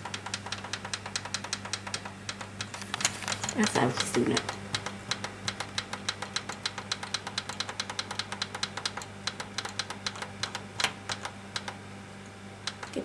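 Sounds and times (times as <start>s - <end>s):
oven timer control clicking: 0.0s - 13.0s.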